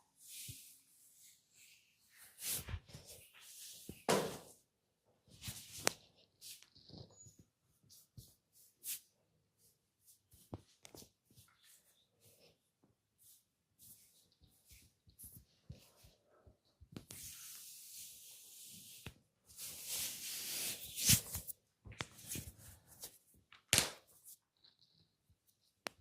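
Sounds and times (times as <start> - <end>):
hands rubbing over skin and hair: 0.2 - 4.1, 5.4 - 16.1, 17.0 - 23.3.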